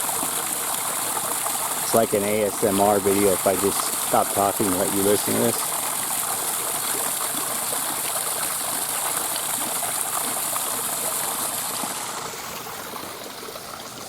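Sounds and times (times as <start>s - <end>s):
waterfall rushing and splashing: 0.0s - 14.0s.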